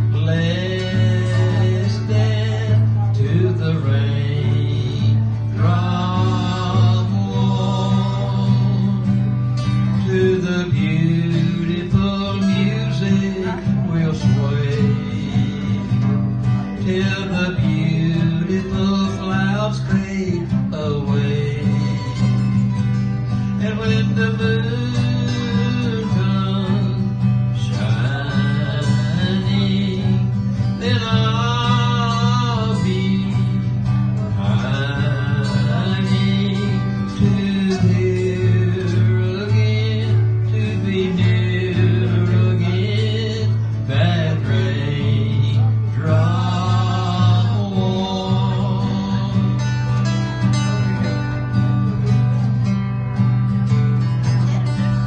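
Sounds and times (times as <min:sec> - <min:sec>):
acoustic guitar strumming: 0:00.0 - 0:55.0
bass line: 0:00.0 - 0:55.0
man singing: 0:00.0 - 0:55.0.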